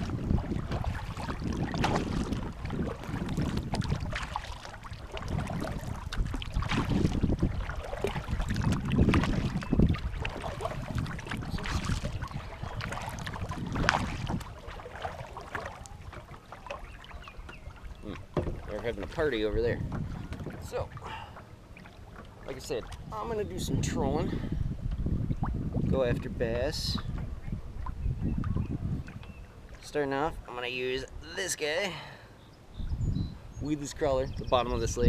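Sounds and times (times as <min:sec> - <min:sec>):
wind buffeting microphone: 0:00.0 - 0:21.2, 0:22.5 - 0:29.6, 0:32.7 - 0:35.0
water around a kayak: 0:00.0 - 0:35.0.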